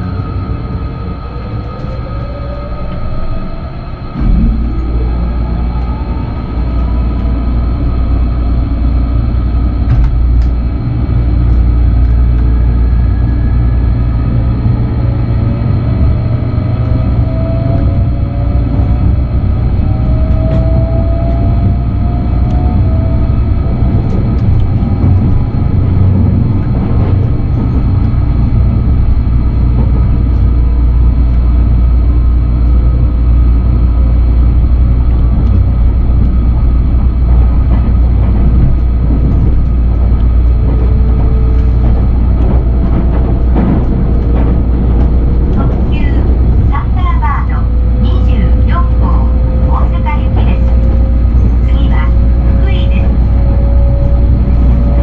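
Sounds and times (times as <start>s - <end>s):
rising electric motor whine: 0.0s - 55.0s
train wheels rumbling on rail: 0.0s - 55.0s.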